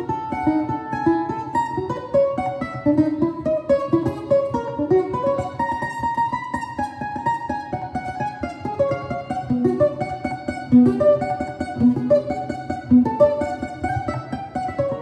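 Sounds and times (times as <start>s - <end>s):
bandolim picking notes: 0.0s - 15.0s.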